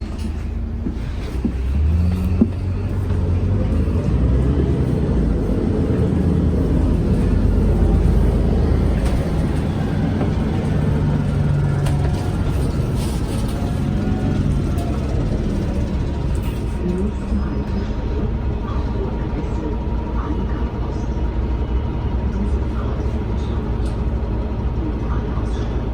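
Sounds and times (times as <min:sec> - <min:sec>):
bus engine rumble: 0:00.0 - 0:25.9.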